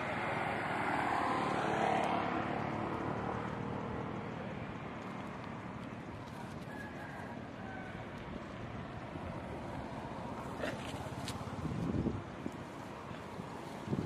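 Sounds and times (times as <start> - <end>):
passing motor vehicle: 0.0 - 14.0.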